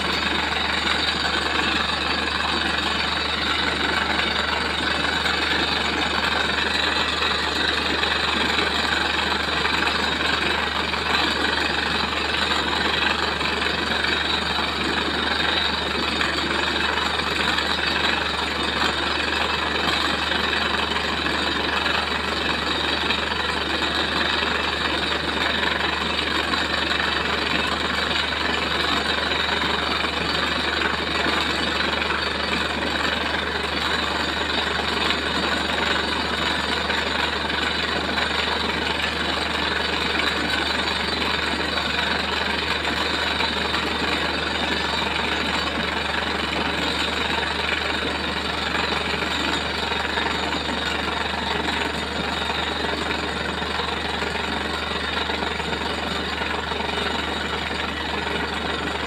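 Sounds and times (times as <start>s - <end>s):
drilling rig engine running: 0.0s - 59.0s
water gushing: 0.0s - 59.0s.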